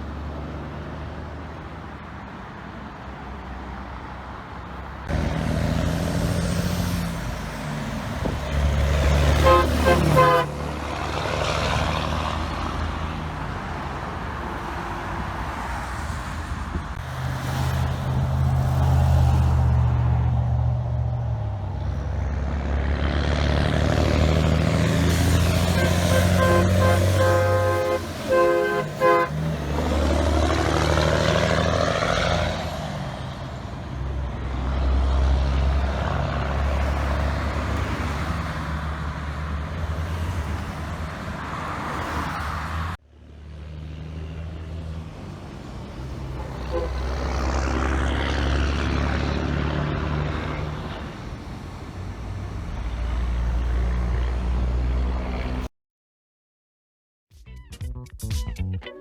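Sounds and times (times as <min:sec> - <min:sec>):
diesel truck passing by: 0:00.0 - 0:55.7.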